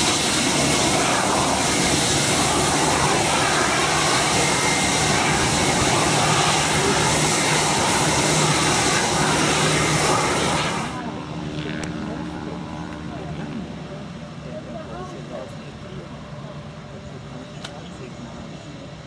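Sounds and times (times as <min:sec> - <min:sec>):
jet engines taxiing: 0:00.0 - 0:19.0.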